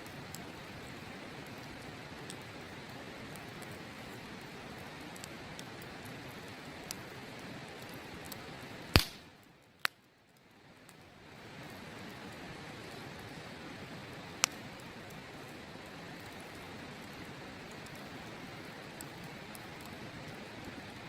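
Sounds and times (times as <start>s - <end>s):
campfire crackling: 0.0s - 21.0s
burning wood cracking: 0.1s - 21.0s.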